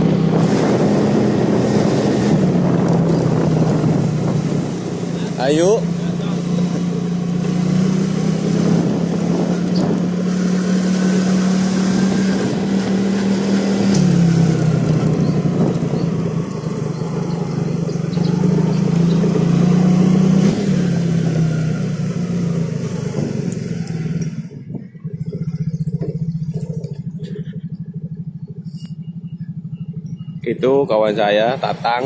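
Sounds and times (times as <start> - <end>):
motorbike engine running: 0.0 - 32.0
wind and road noise: 0.0 - 32.0.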